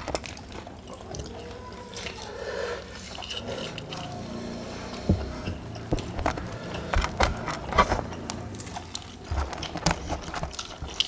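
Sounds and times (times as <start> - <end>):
fried chicken crunching: 0.0 - 11.0.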